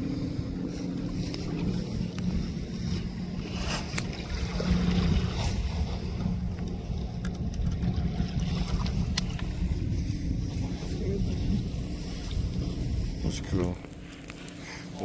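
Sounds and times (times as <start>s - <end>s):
boat engine droning: 0.0s - 15.0s
wind rumbling on microphone: 0.0s - 15.0s.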